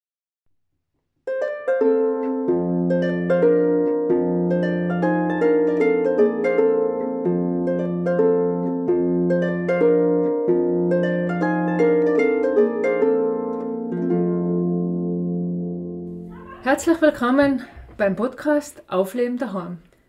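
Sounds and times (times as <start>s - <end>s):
plucked string melody: 1.3s - 18.0s.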